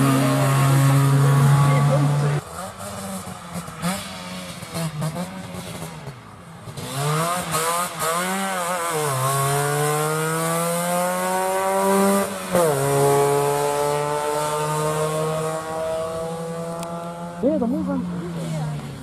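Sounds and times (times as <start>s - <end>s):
buzzy two-stroke car engine revving: 0.0s - 18.8s.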